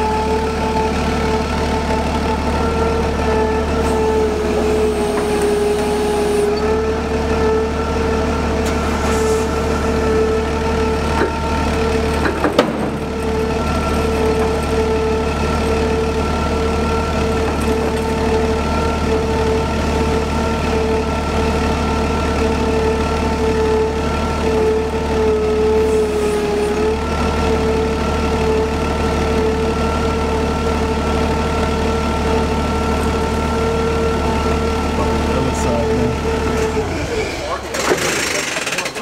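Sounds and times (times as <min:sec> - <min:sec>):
forklift engine whining: 0:00.0 - 0:39.0.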